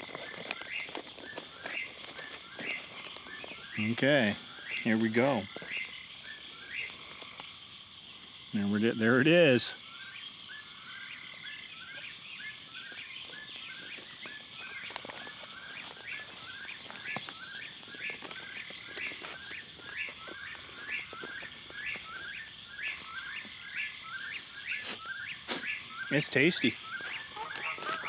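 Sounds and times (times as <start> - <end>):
frogs calling: 0.0 - 28.0.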